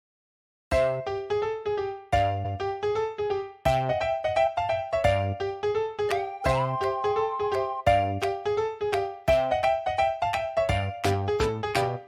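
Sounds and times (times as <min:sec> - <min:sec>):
keyboard chord and melody: 0:00.8 - 0:12.0.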